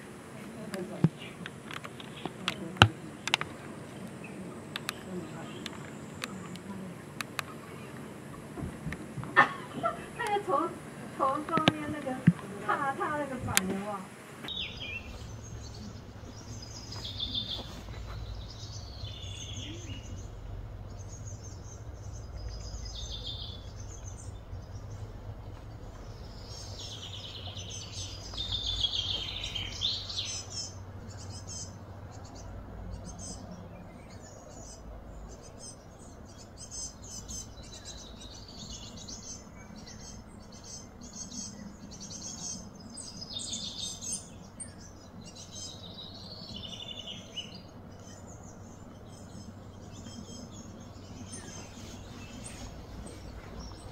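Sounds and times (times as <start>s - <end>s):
birds chirping and calling: 0.0s - 53.9s
low steady background rumble: 0.0s - 53.9s.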